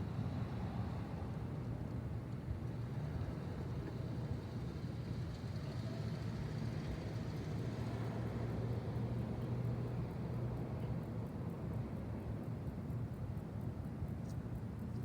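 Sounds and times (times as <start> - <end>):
distant road traffic rumble: 2.3 - 15.0.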